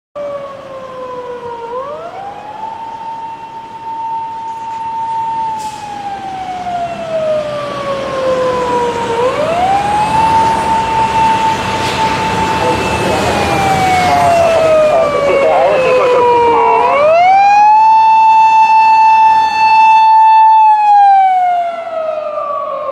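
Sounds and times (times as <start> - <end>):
emergency vehicle siren wailing: 0.2 - 22.9.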